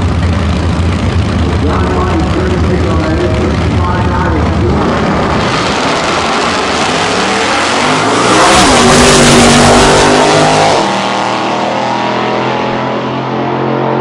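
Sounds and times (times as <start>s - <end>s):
pickup truck engines accelerating: 0.0s - 14.0s.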